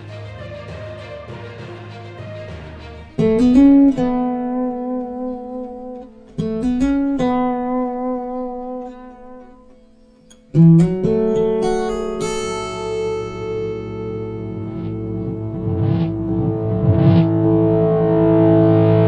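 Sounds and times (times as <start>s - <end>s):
acoustic guitar chords: 3.2s - 19.0s.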